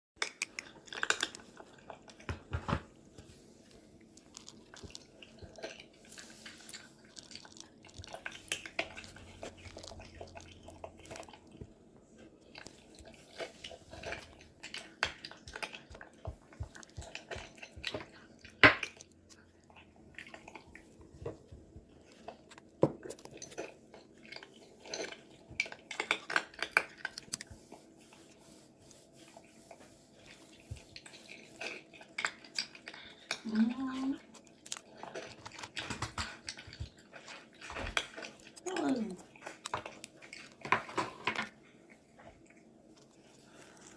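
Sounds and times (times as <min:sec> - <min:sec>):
cat chewing dry kibble: 0:00.2 - 0:43.9.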